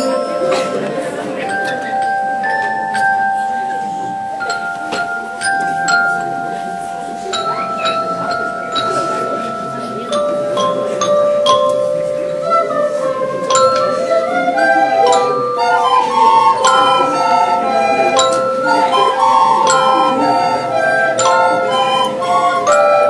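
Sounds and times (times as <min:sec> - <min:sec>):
mallet instruments: 0:00.0 - 0:23.0
recorder playing: 0:00.0 - 0:23.0.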